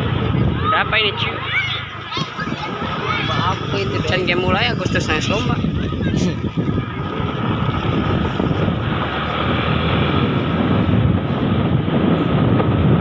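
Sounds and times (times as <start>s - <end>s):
motorcycle riding: 0.0s - 13.0s
wind on microphone: 0.0s - 13.0s.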